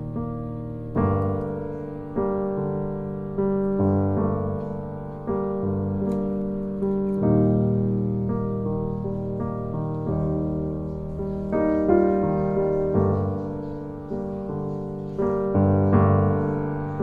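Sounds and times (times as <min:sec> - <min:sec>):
gentle piano chords: 0:00.0 - 0:17.0.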